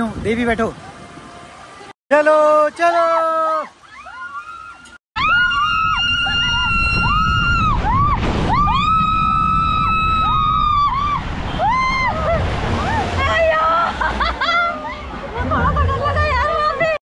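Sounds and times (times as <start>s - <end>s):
water rushing on a slide: 2.6s - 17.0s.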